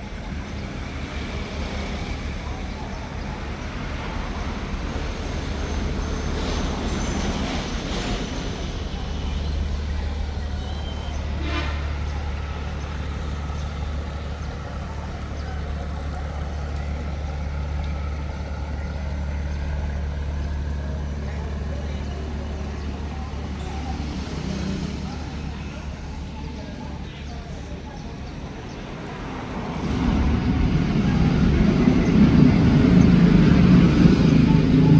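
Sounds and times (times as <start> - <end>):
boat engine humming: 0.0 - 34.9.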